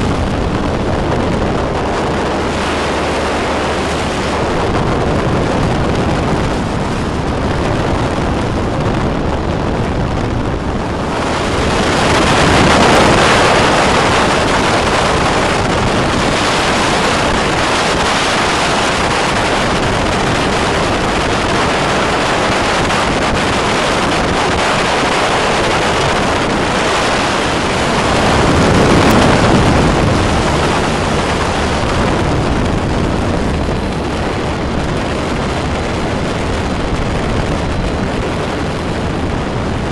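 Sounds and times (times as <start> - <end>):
aircraft engine droning: 0.0 - 39.9
wind rush on microphone: 0.0 - 39.9.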